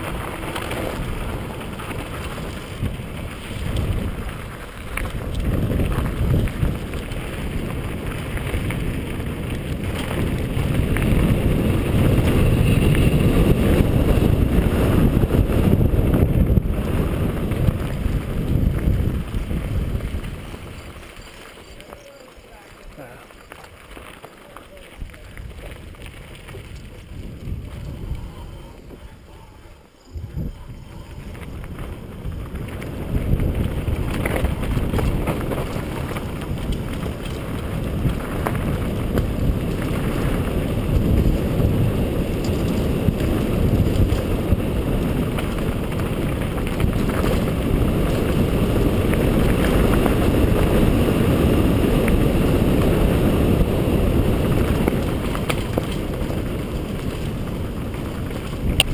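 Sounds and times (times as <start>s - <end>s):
wind on microphone: 0.0s - 21.2s, 25.0s - 58.9s
bike rattling over rocky trail: 0.0s - 58.9s.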